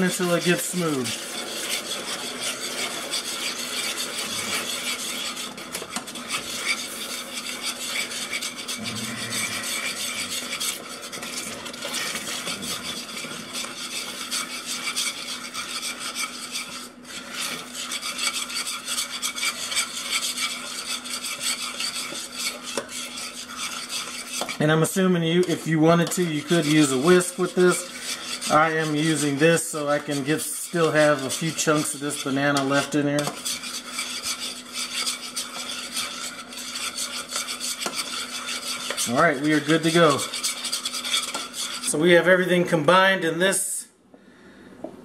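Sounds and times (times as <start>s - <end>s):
metal spoon scraping a saucepan: 0.0s - 42.6s.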